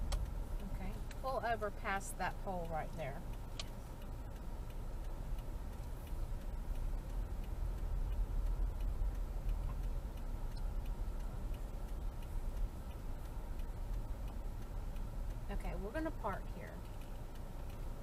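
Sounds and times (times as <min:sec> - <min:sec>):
engine and tyre rumble: 0:00.0 - 0:18.0
turn signal ticking: 0:00.0 - 0:18.0.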